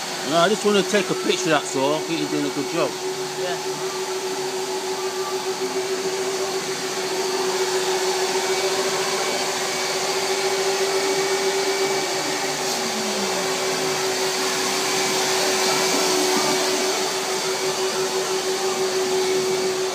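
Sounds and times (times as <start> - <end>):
vacuum cleaner running: 0.0 - 19.9.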